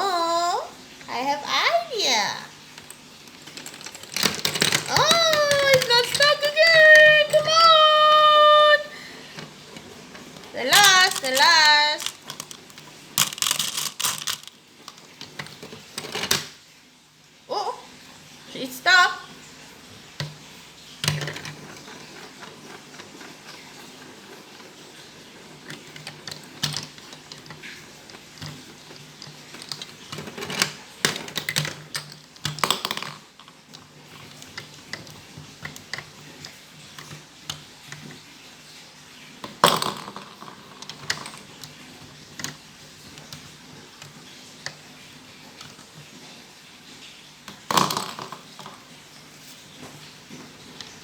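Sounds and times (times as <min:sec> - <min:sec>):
marble run clicking and clattering: 0:01.1 - 0:16.6, 0:21.0 - 0:38.4, 0:39.4 - 0:46.3, 0:47.5 - 0:48.9.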